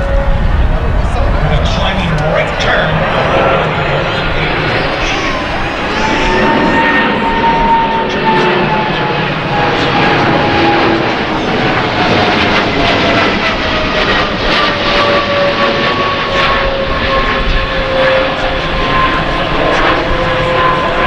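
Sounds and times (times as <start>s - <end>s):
jet engine roar with falling whine: 0.0s - 21.0s.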